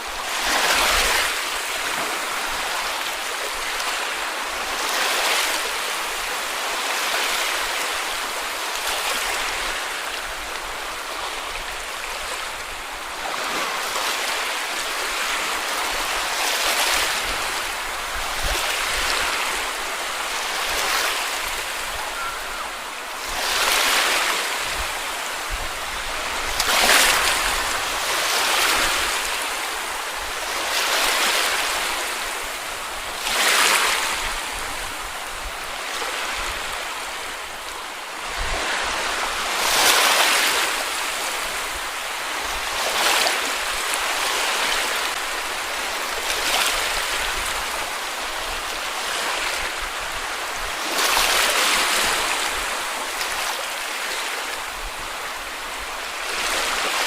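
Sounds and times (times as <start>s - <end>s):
sea waves breaking on a beach: 0.0s - 57.0s.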